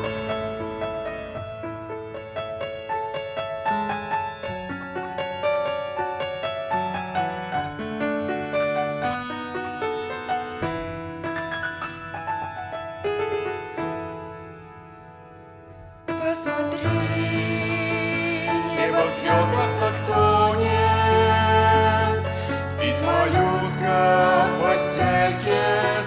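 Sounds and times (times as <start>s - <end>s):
piano melody over chords: 0.0s - 26.0s.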